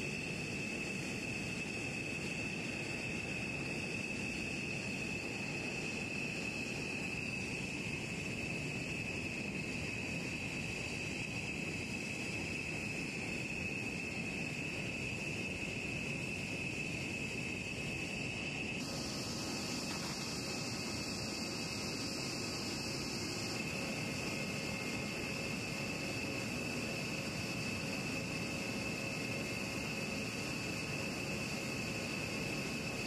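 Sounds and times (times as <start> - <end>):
jet engines idling: 0.0 - 33.0.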